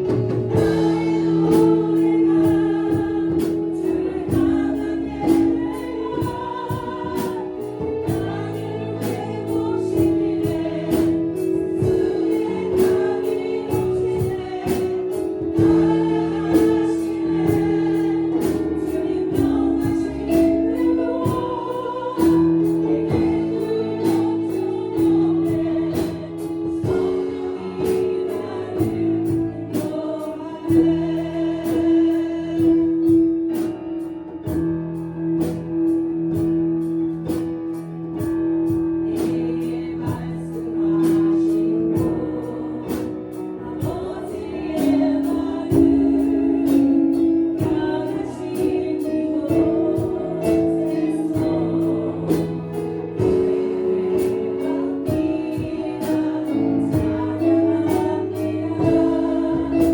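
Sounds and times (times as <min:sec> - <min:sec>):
steady drum beat: 0:00.0 - 0:33.9, 0:34.5 - 0:59.9
choir singing gospel: 0:00.0 - 0:59.9.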